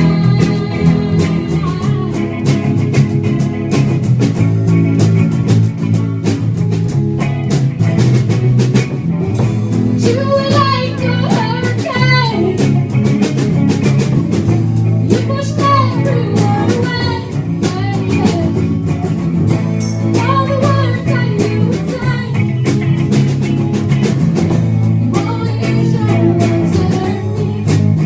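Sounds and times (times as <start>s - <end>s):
drum kit beat: 0.0s - 28.0s
rock band playing: 0.0s - 28.0s.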